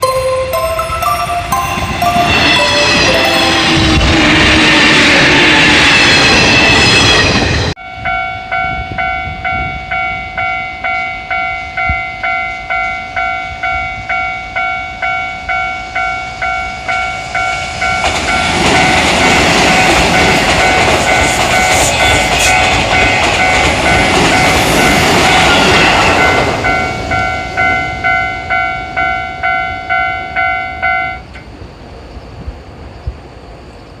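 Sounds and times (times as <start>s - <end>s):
level-crossing warning bell ringing: 0.0s - 31.4s
train wheel and rail noise: 0.0s - 34.0s.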